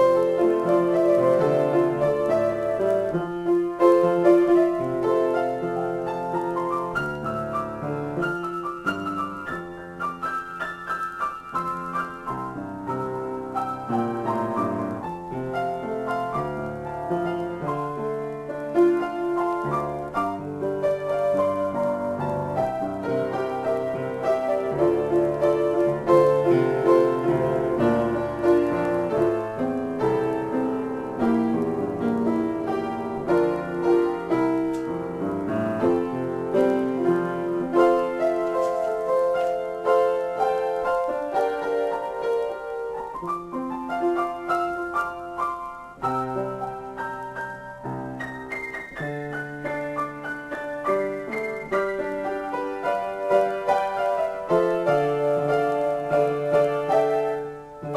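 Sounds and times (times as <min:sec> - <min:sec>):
solo piano playing: 0:00.0 - 0:57.9.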